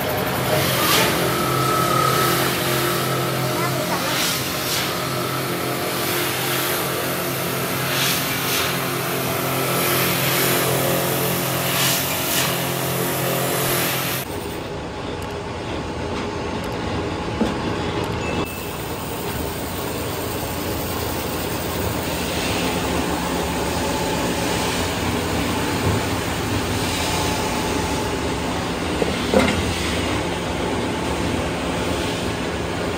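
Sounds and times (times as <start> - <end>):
grinding machine running: 0.0 - 14.6, 18.5 - 32.9.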